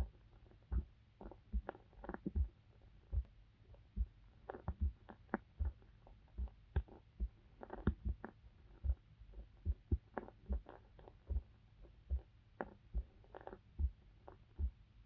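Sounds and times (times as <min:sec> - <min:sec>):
heartbeat thumps: 0:00.0 - 0:14.9.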